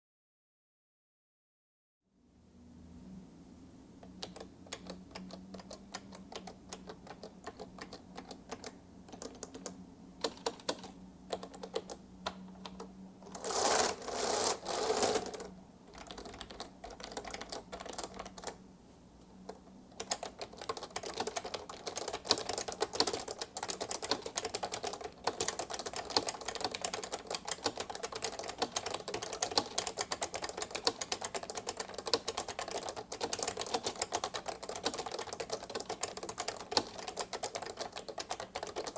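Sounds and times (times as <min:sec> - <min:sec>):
typing on keyboard: 0:04.0 - 0:18.6, 0:19.4 - 0:38.9.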